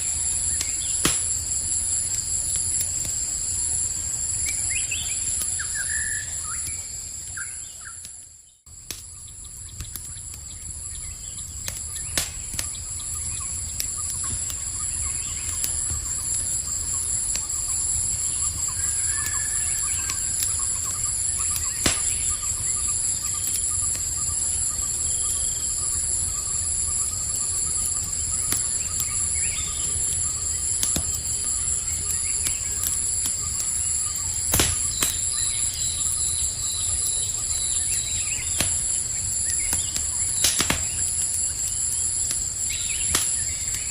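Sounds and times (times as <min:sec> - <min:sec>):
campfire crackling and popping: 0:00.0 - 0:43.9
night insects chirring: 0:00.0 - 0:43.9.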